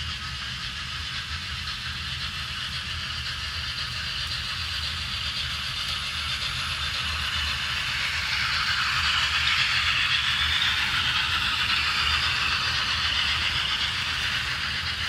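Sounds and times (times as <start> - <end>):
model train rumble: 0.0 - 15.0
steam hiss: 0.0 - 15.0.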